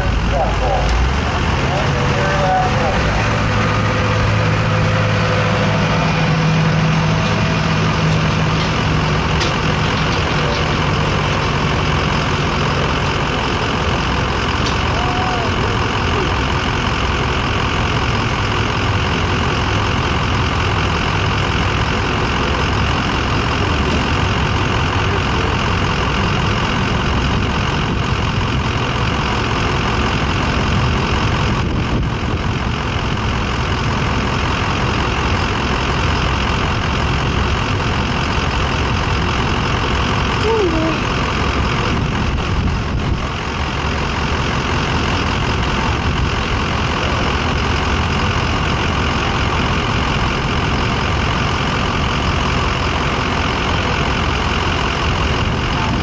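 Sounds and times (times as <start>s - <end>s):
truck engine running under load: 0.0s - 56.0s.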